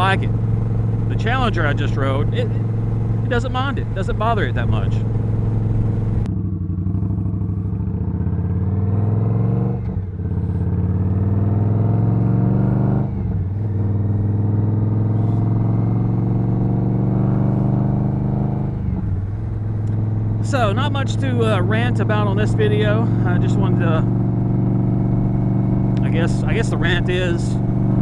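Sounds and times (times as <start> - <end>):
motorcycle engine shifting gears: 0.0 - 28.0.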